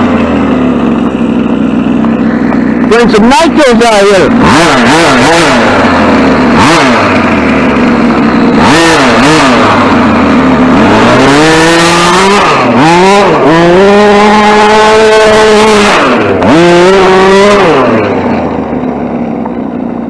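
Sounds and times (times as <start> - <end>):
rc truck motor revving: 0.0 - 20.0.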